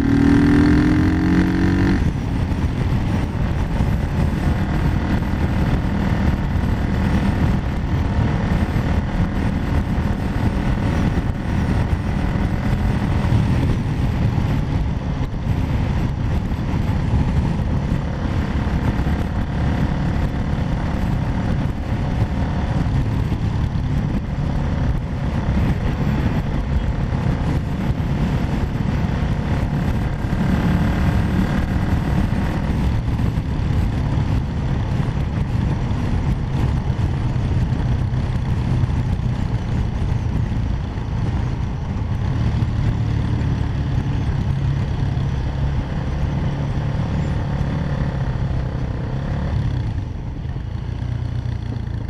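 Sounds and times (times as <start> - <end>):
quad bike engine running: 0.0 - 52.0
wind rushing over microphone: 0.0 - 52.0.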